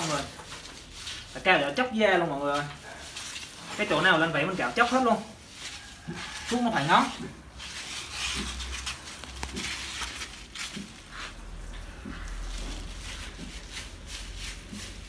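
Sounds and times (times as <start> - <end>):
gloved hands rubbing wet fur: 0.0 - 15.0.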